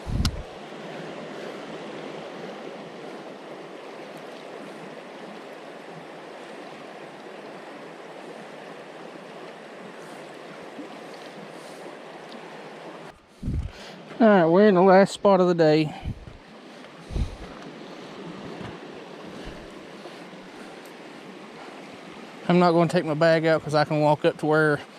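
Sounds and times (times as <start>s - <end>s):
creek water rushing: 0.0s - 24.9s.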